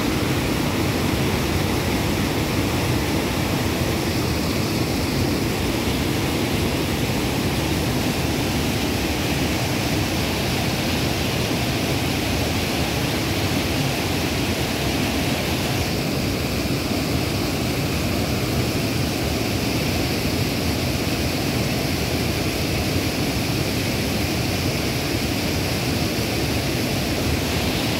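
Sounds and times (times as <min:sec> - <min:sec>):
water rushing over a weir: 0:00.0 - 0:27.9.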